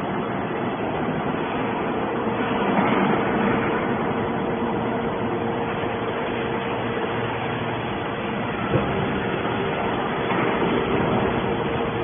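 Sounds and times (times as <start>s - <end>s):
hydraulic baler power unit running: 0.0s - 12.0s.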